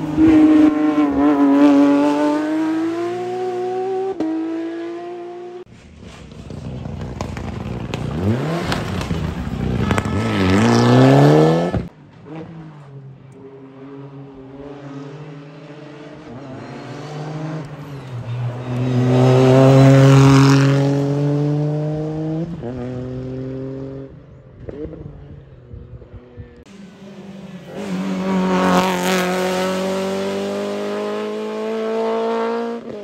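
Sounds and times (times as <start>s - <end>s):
rally car engine accelerating: 0.0s - 25.4s, 26.7s - 33.0s
rally car approaching: 0.0s - 33.0s.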